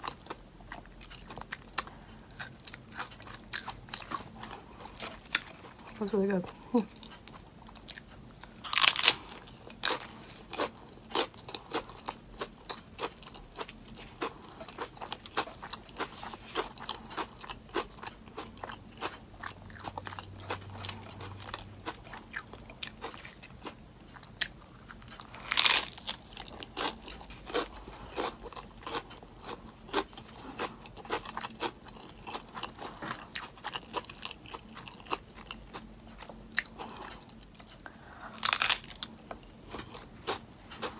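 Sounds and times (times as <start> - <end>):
chewing and crunching lettuce: 0.0 - 40.9.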